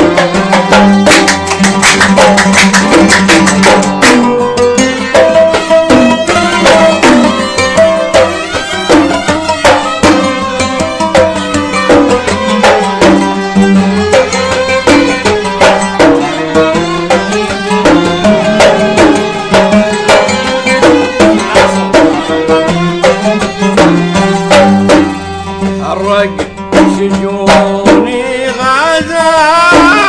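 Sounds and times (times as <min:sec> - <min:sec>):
hand drums beating: 0:00.0 - 0:30.0
violins and qanun melody: 0:00.0 - 0:30.0.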